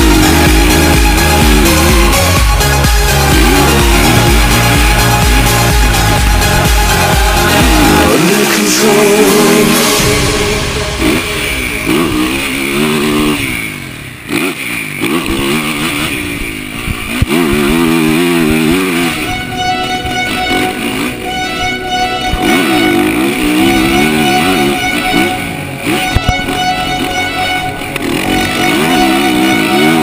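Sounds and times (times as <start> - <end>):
guitar music: 0.0 - 14.4, 18.2 - 30.0
motocross bike engine revving: 0.0 - 30.0.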